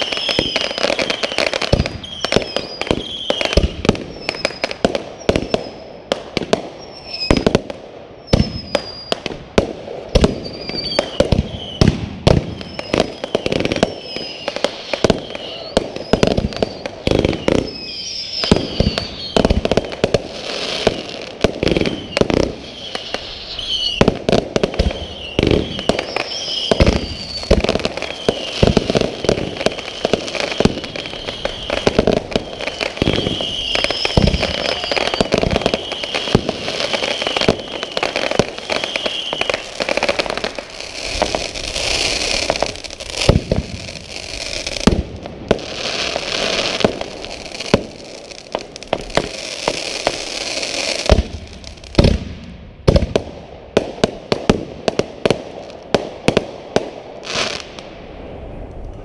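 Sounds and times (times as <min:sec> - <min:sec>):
firework whistling: 0:00.0 - 0:53.1
fireworks bangs and booms: 0:00.0 - 0:59.0.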